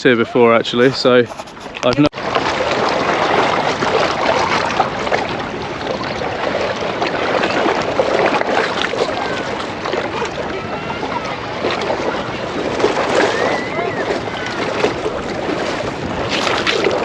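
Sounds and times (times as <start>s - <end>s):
seawater lapping at shore: 0.3s - 17.0s.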